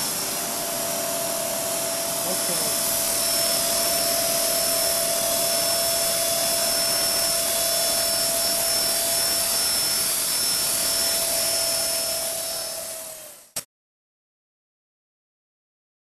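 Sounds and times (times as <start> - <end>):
rc helicopter motor whine: 0.0 - 13.7.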